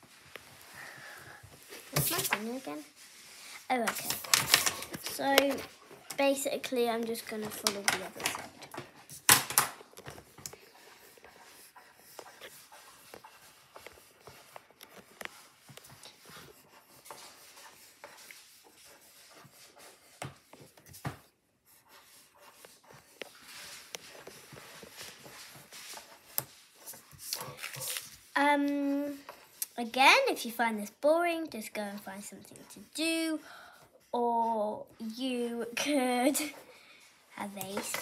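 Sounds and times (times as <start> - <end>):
pencil scratching on paper: 1.6 - 9.2, 10.0 - 36.7.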